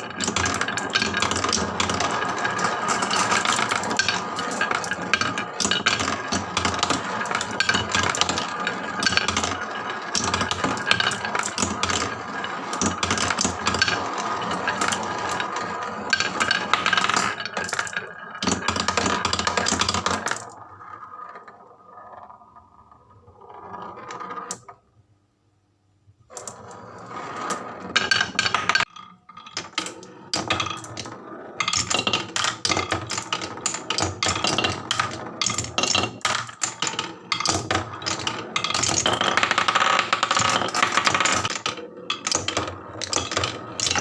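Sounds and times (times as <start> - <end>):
marbles rattling down wooden slopes: 0.0 - 24.8, 26.3 - 44.0.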